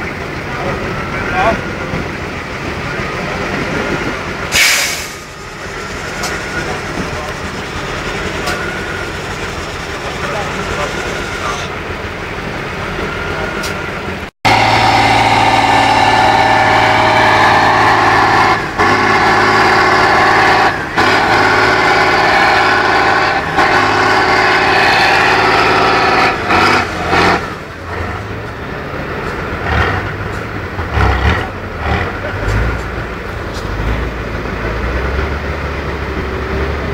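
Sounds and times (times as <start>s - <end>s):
truck diesel engine revving hard: 0.0s - 36.9s.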